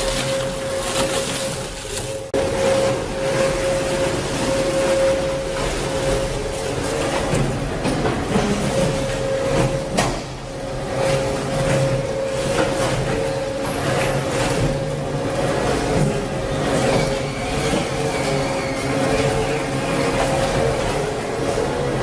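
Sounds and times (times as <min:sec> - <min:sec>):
conveyor machine hum and whine: 0:00.0 - 0:22.0.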